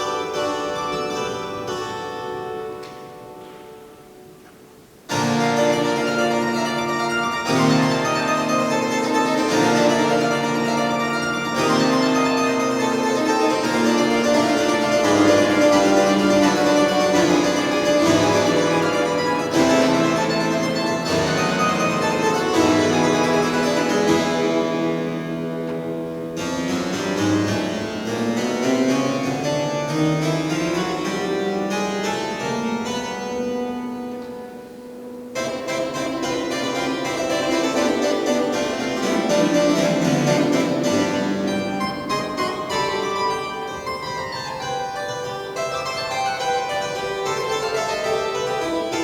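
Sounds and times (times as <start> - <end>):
church pipe organ playing: 5.0 - 49.0.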